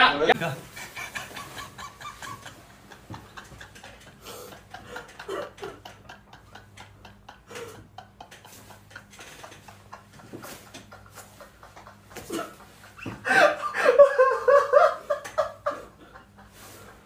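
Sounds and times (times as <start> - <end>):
man laughing quietly: 0.4 - 17.0.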